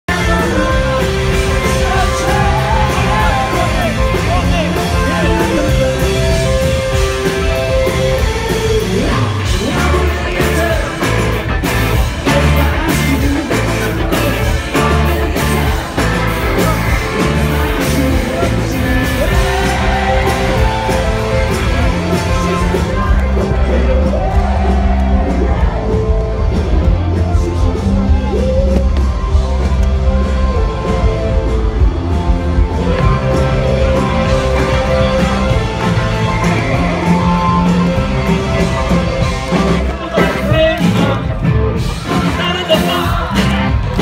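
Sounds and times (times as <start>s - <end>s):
person singing: 0.0s - 29.3s, 32.8s - 44.0s
rock band playing: 0.0s - 44.0s.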